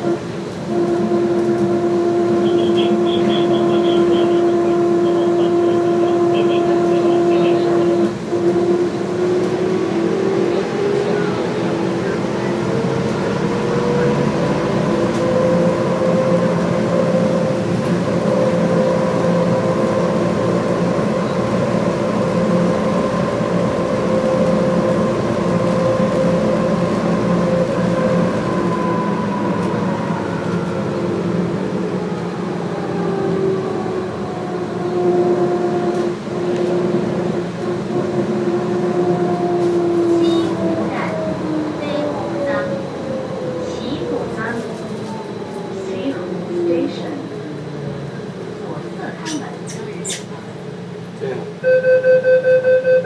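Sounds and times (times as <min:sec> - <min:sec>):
train rumble: 0:00.0 - 0:51.7
subway traction motor whine: 0:00.0 - 0:51.8.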